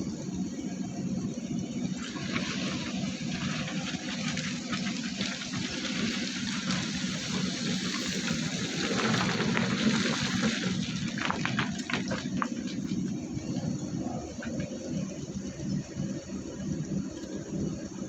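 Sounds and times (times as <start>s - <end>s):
continuous rushing hiss: 0.0s - 18.0s
heavy diesel engine running: 0.0s - 18.0s.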